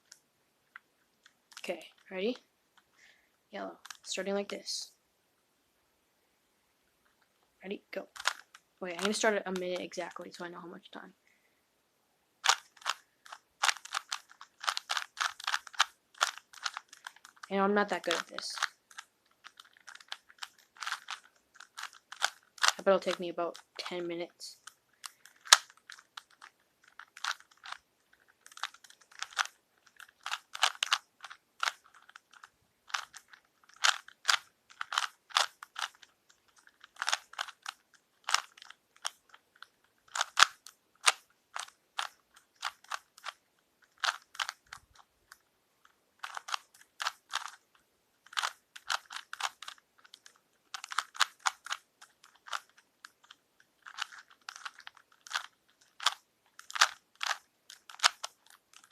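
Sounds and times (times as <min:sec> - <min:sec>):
puzzle cube layers clicking: 0:00.0 - 0:02.4, 0:03.6 - 0:04.8, 0:08.0 - 0:10.6, 0:12.4 - 0:58.9.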